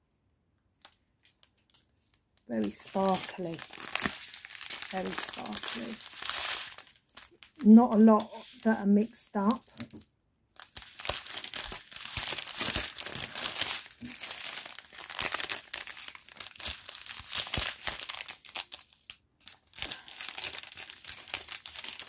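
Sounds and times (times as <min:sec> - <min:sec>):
plastic bags crinkling: 0:00.8 - 0:10.0, 0:10.6 - 0:22.0.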